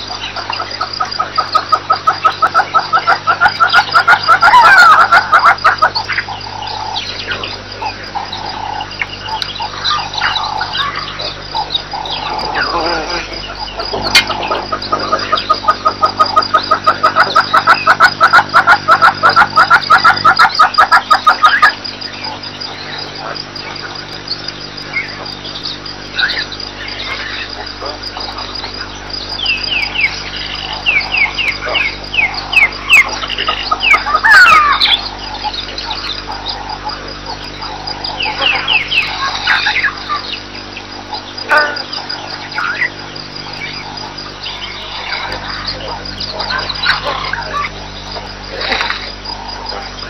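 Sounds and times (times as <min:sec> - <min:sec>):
bird calls with falling notes: 0:00.0 - 0:50.0
bird fast repeated notes: 0:00.0 - 0:50.0
steady low hum: 0:00.0 - 0:50.0.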